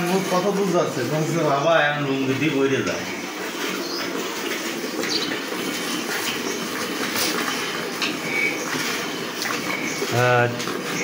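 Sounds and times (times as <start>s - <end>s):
milk squirting into a pail: 0.0s - 11.0s.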